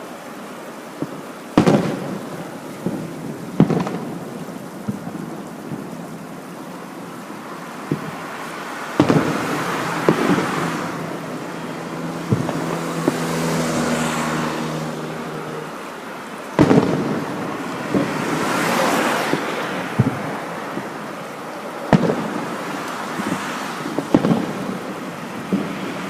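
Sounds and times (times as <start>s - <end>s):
fireworks bursting with bangs: 0.0s - 26.0s
fireworks crackling: 0.0s - 26.0s.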